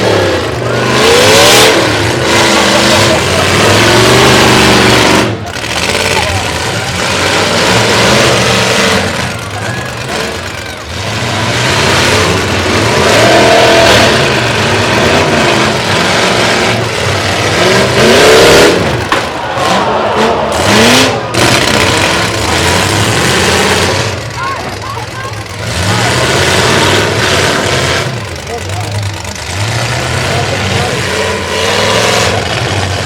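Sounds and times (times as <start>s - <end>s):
truck engines revving hard: 0.0s - 33.0s.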